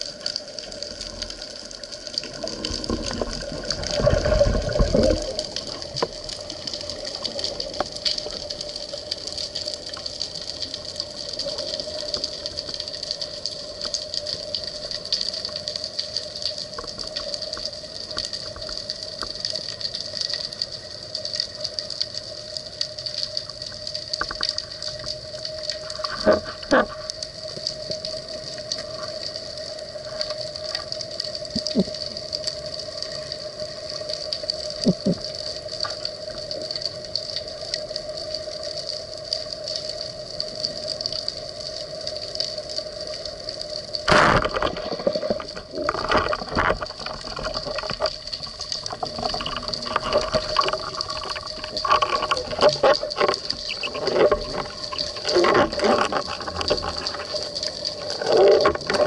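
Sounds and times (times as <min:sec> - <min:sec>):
underwater hum: 0:00.0 - 0:59.0
knocks and clicks underwater: 0:00.1 - 0:20.8, 0:22.8 - 0:33.1, 0:34.7 - 0:37.9, 0:42.4 - 0:59.0.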